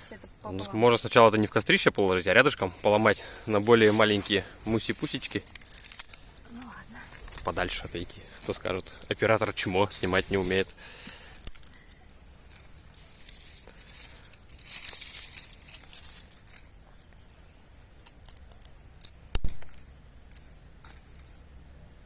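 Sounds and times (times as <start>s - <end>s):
twigs crackling and rustling: 2.3s - 21.5s
twigs snapping: 3.2s - 21.4s.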